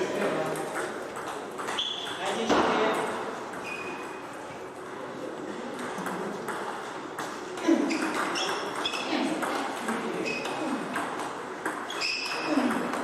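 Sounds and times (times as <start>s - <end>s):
ping-pong ball clicking off paddles: 0.2s - 5.0s, 5.7s - 13.0s.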